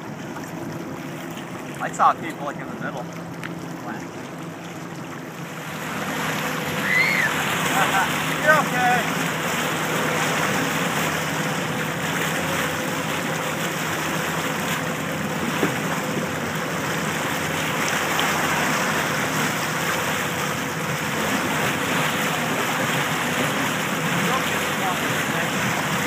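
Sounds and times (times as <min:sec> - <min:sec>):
motorboat engine hum: 0:00.0 - 0:26.0
wake water rushing: 0:00.0 - 0:26.0.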